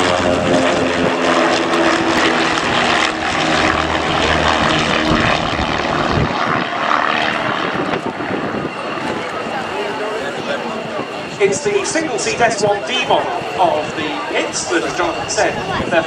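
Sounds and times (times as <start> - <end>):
propeller planes flying: 0.0 - 16.0.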